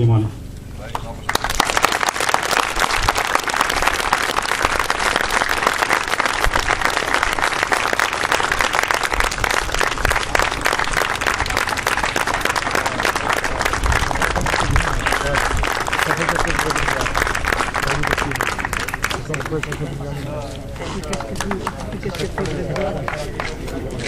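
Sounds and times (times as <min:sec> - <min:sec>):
people applauding: 0:00.9 - 0:24.0.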